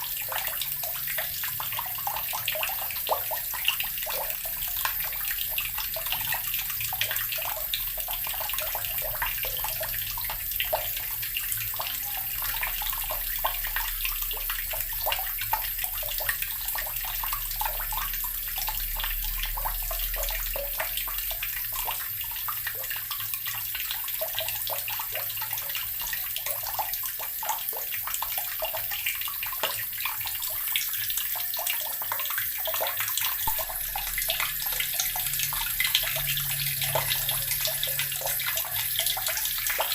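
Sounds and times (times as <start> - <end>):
tap water pouring into barrel: 0.0 - 39.9.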